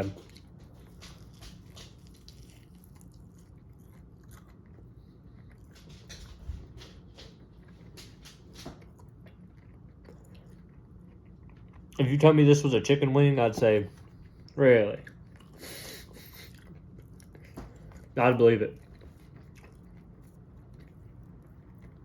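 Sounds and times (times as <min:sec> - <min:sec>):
person chewing crunchy food: 0:00.0 - 0:06.0, 0:07.4 - 0:12.2, 0:13.9 - 0:22.0.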